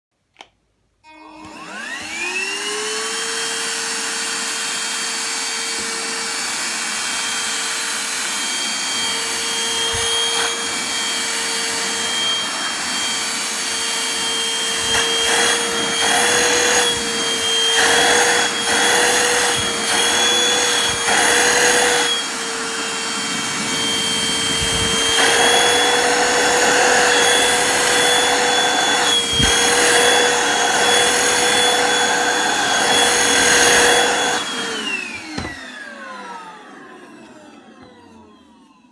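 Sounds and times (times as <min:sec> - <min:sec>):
handheld vacuum cleaner whine: 0:01.0 - 0:38.9.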